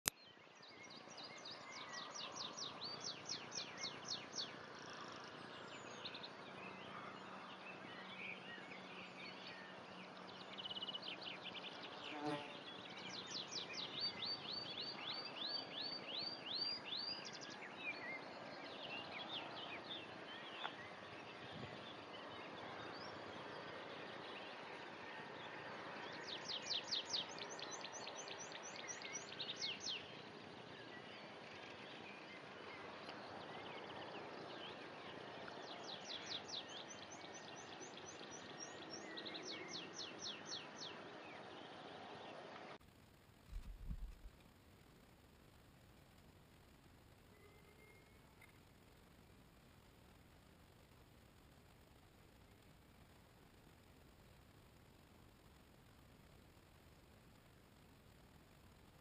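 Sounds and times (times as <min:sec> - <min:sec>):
faint outdoor hiss: 0:00.0 - 0:59.0.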